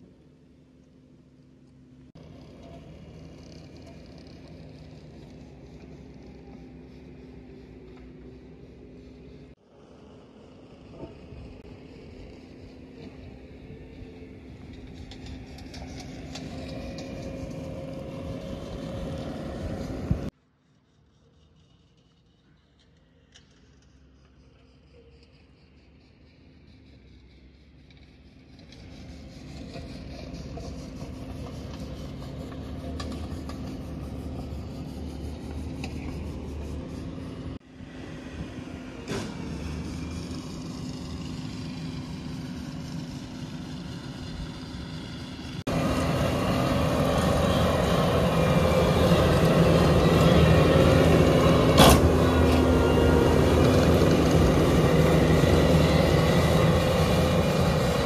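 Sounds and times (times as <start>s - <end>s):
loader engine hum: 0.0s - 58.0s.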